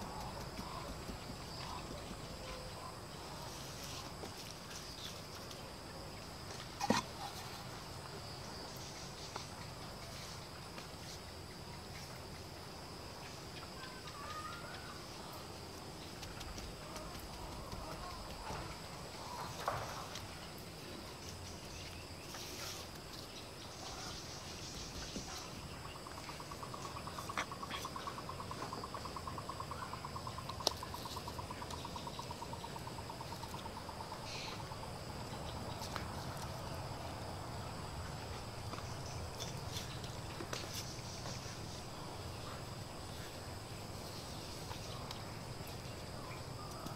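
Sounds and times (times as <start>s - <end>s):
crickets buzzing: 0.0s - 46.9s.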